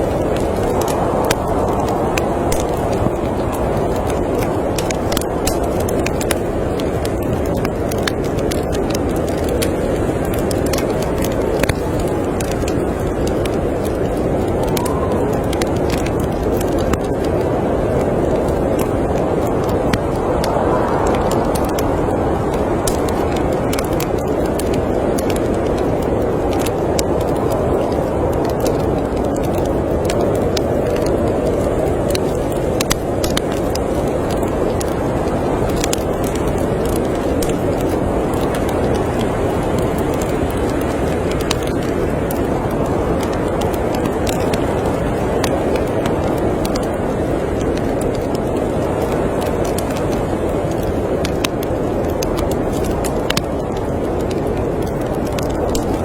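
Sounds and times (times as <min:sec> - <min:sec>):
storm wind blowing: 0:00.0 - 0:56.0
wood fire crackling: 0:00.0 - 0:56.0.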